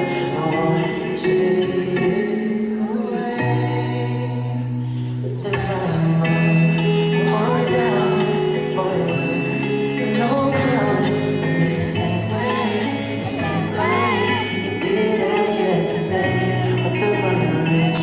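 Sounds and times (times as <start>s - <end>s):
person singing: 0.0s - 18.0s
pop song through concert speakers: 0.0s - 18.0s.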